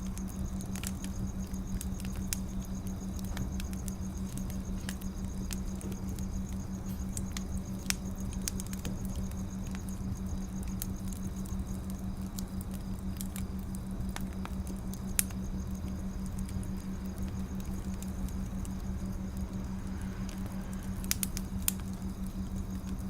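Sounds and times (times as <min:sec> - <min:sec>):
low steady hum: 0:00.0 - 0:23.0
wood fire crackling: 0:00.0 - 0:23.0.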